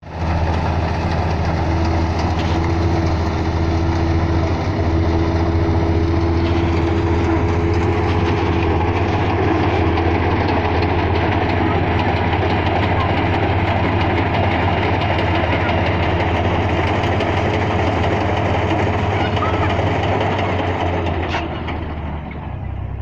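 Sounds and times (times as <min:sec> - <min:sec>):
deep engine drone: 0:00.0 - 0:23.0.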